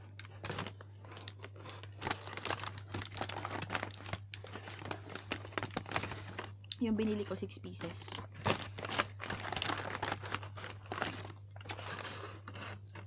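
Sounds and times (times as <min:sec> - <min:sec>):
food packaging crinkling: 0:00.0 - 0:13.0
low steady hum: 0:00.0 - 0:13.0.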